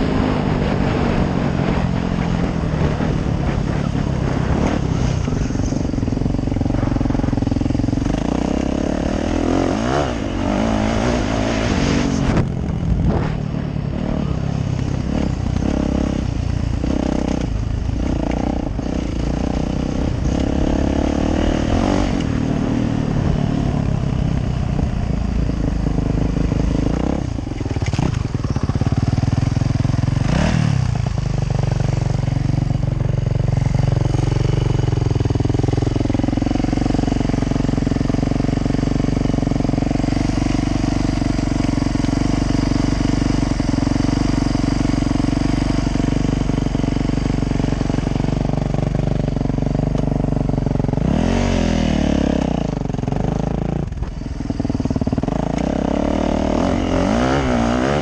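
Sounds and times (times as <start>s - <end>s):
dirt bike engine idling: 0.0s - 58.0s
dirt bike engine revving: 0.0s - 58.0s.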